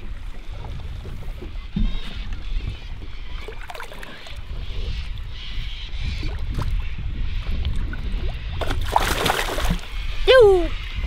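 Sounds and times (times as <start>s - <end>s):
water noise: 0.0s - 11.0s
wind rumbling on microphone: 0.0s - 11.0s.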